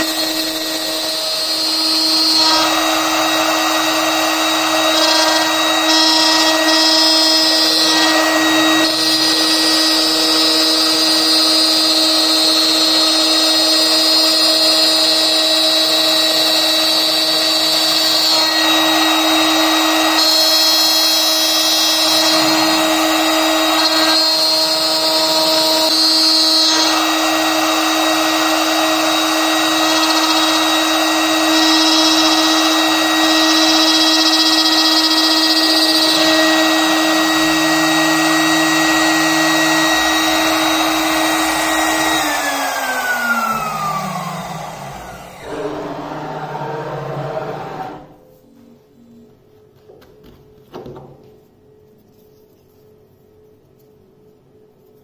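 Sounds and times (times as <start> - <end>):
router spindle whine: 0.0 - 48.2.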